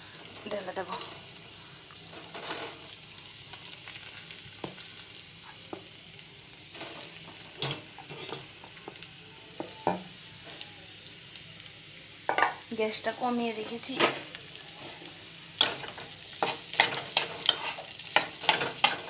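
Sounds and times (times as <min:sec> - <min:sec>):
potatoes sizzling in oil: 0:00.0 - 0:19.0.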